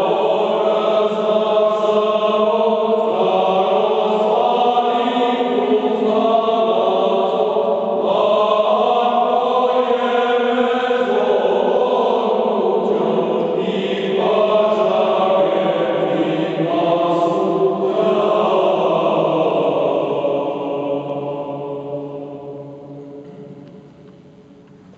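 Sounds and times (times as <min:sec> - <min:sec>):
male choir singing a cappella: 0:00.0 - 0:23.6.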